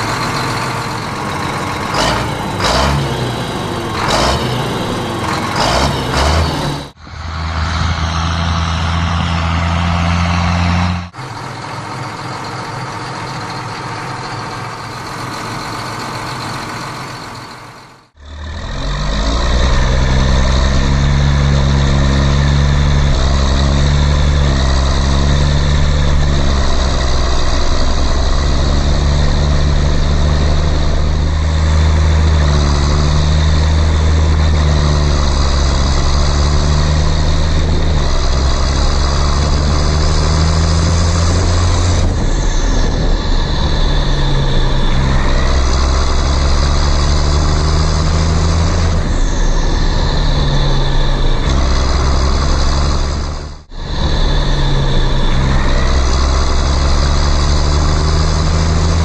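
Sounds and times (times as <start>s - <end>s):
diesel tractor engine: 0.0s - 59.0s.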